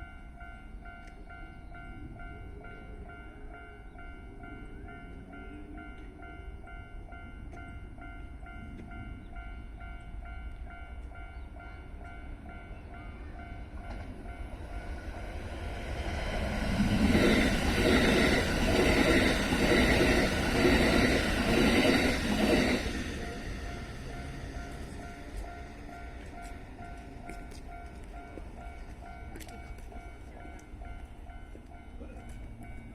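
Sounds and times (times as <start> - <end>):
level crossing warning bell: 0.0 - 32.9.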